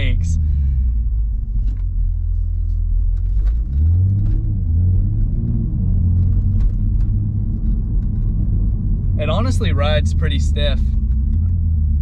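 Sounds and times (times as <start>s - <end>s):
car engine drone in cabin: 0.0s - 12.0s.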